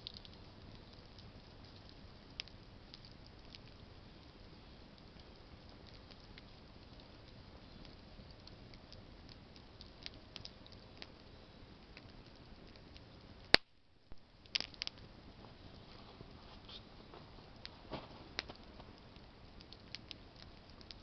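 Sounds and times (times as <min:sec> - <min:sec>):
campfire crackling: 0:00.0 - 0:21.0
low hiss of flames: 0:00.0 - 0:21.0
sharp pops from fire: 0:00.0 - 0:21.0.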